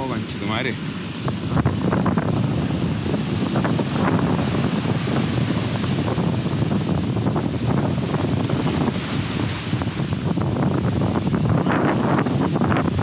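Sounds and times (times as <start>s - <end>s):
breaking surf: 0.0s - 13.0s
wind buffeting microphone: 0.0s - 13.0s.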